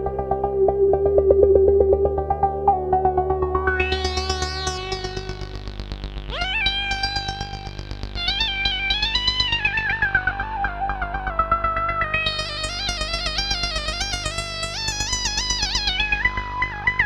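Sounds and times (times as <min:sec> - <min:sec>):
low synth drone: 0:00.0 - 0:17.0
synthesizer melody: 0:00.0 - 0:17.0.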